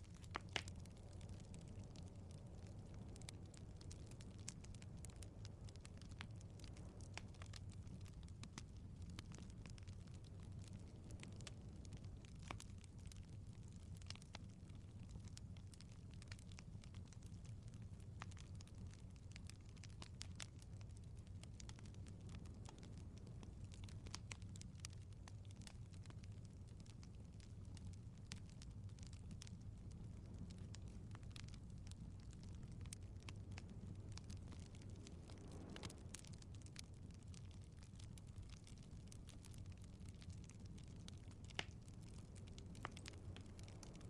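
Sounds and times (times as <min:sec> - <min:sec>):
flames rumbling: 0:00.0 - 0:44.0
wood fire crackling: 0:00.0 - 0:44.0.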